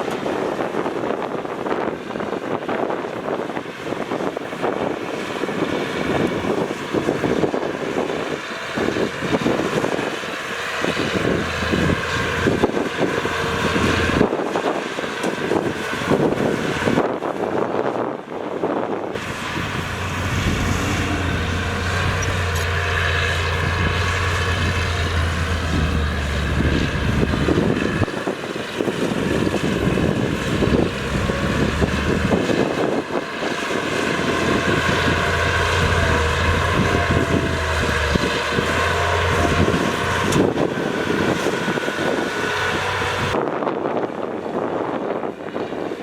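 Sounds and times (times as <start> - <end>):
earthmoving machinery engine drone: 0.0 - 46.0
wind buffeting microphone: 0.0 - 46.0.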